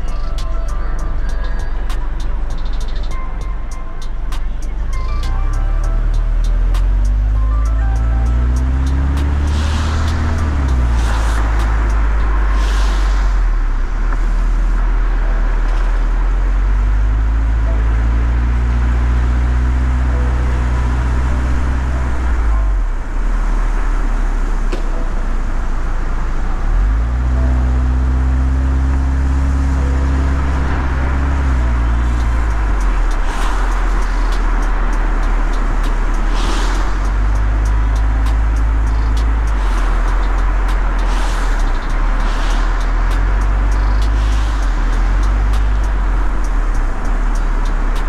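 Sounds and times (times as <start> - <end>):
cars passing on wet street: 0.0 - 48.0
deep held bass notes: 0.0 - 48.0.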